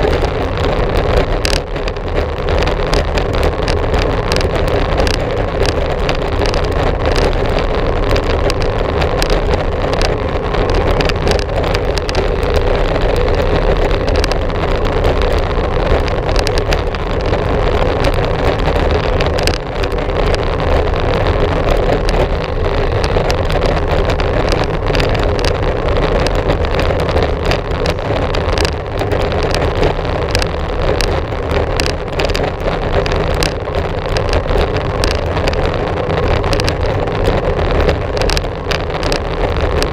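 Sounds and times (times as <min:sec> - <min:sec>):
bicycle riding noise: 0:00.0 - 0:39.9.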